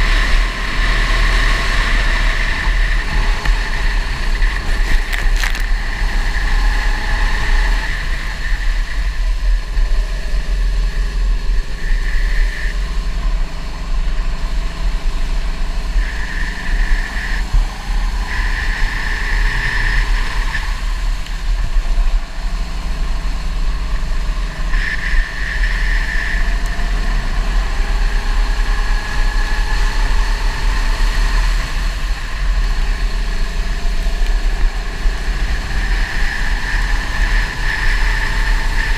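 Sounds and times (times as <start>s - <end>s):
deep rumble: 0.0s - 38.9s
go-kart engine running: 0.0s - 38.9s.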